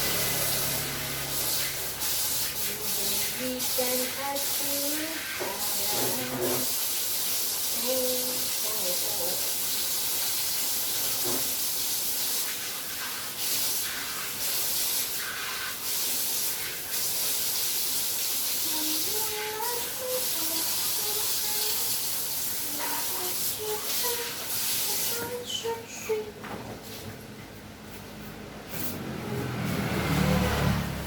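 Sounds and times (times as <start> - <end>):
steady hiss: 0.0 - 26.3.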